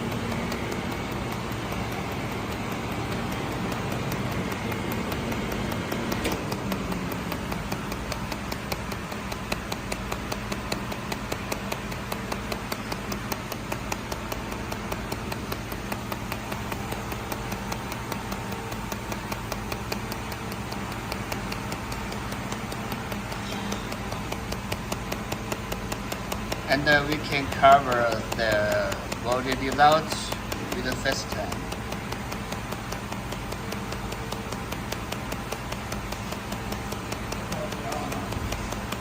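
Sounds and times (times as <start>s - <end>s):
machine hum: 0.0s - 39.0s
welding machine sharp ticks: 0.0s - 39.0s.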